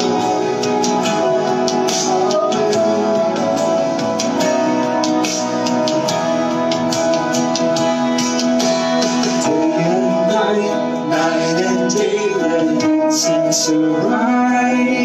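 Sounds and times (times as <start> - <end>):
person singing: 0.0 - 5.0, 6.0 - 15.0
strummed guitar: 0.0 - 15.0.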